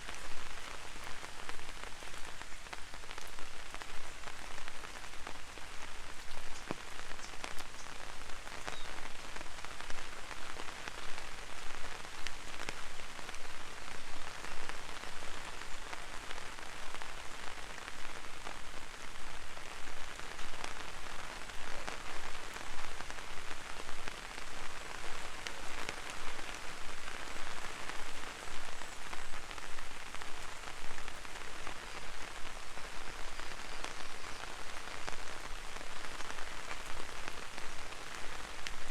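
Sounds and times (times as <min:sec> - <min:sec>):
rain hissing on an umbrella: 0:00.0 - 0:38.9
raindrops ticking: 0:00.1 - 0:38.9.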